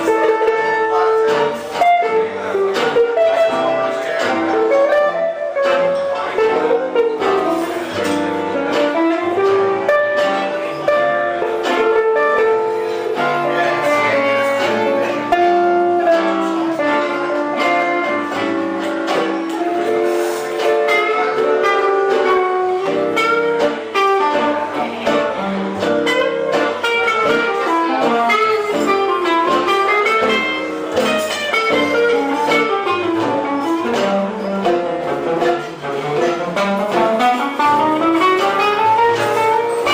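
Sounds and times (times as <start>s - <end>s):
live band with plucked guitar: 0.0s - 39.9s.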